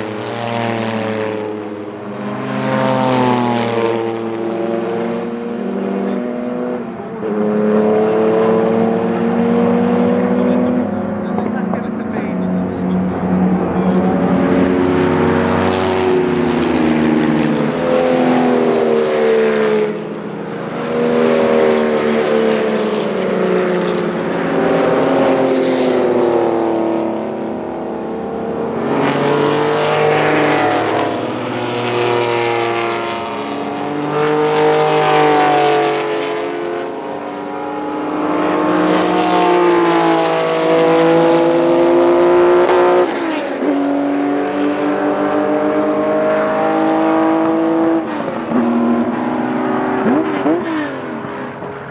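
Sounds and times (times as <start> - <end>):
racing cars passing at speed: 0.0 - 51.9.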